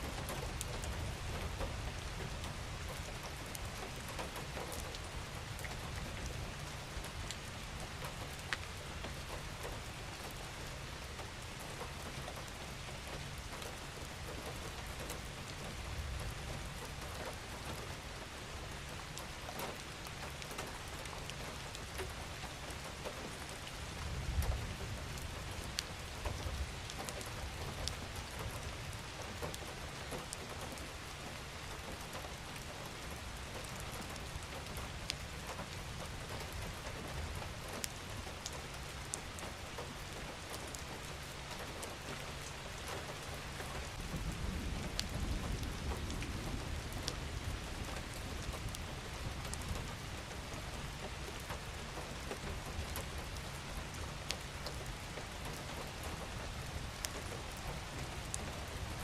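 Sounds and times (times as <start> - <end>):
steady rain falling: 0.0 - 59.0
raindrops ticking: 0.1 - 59.0.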